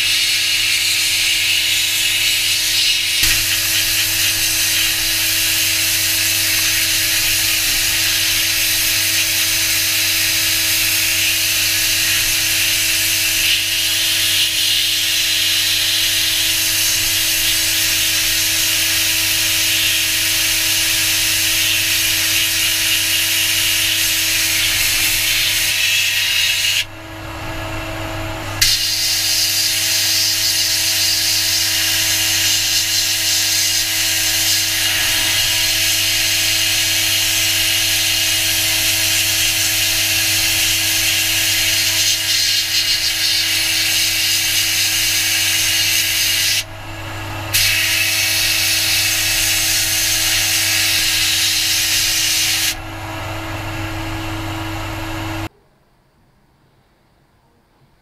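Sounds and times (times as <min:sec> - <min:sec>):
sandblaster hissing: 0:00.0 - 0:26.9, 0:28.5 - 0:52.8
steady low hum: 0:00.0 - 0:57.6.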